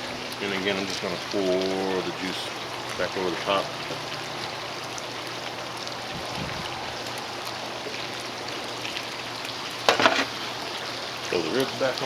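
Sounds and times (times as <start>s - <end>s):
liquid trickling into pan: 0.2s - 12.0s.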